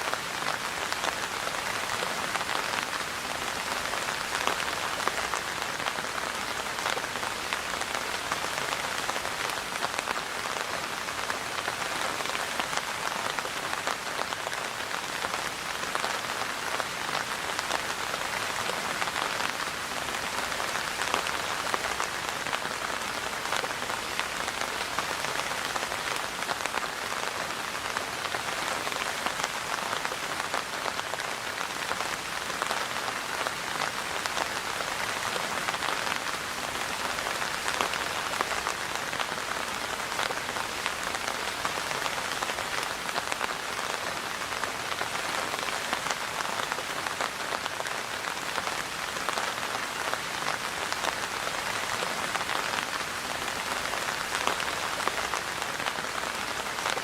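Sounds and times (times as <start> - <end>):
steady rainfall patter: 0.0 - 57.0.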